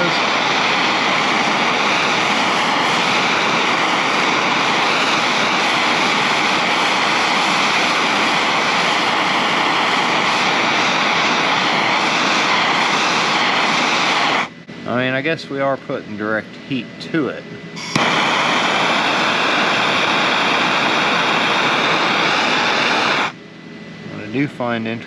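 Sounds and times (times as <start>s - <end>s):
propane torch flame hissing: 0.0s - 23.4s.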